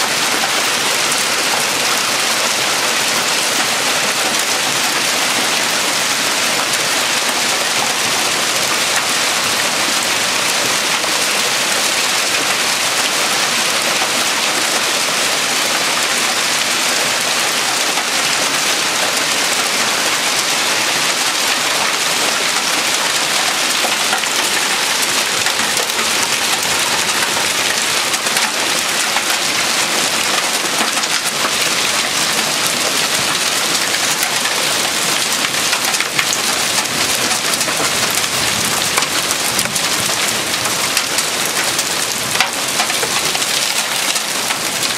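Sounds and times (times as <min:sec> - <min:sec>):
hail and rain pelting: 0:00.0 - 0:44.9.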